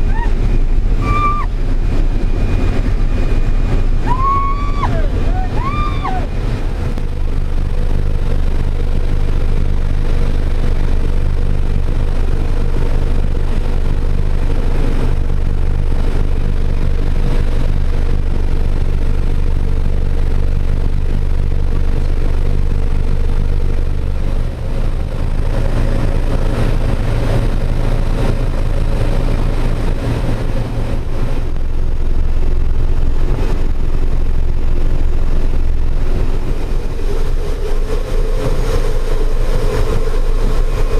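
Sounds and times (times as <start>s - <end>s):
turboprop engine droning: 0.0s - 40.9s.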